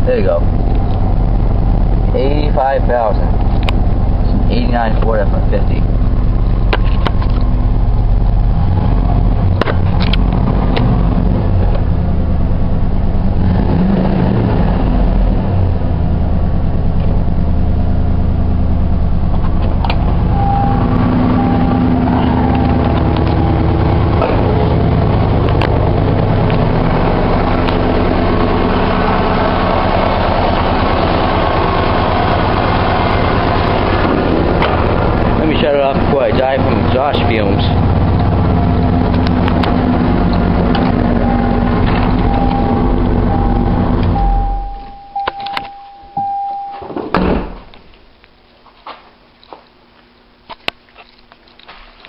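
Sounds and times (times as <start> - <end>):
truck engine idling: 0.0 - 13.5, 15.1 - 46.6.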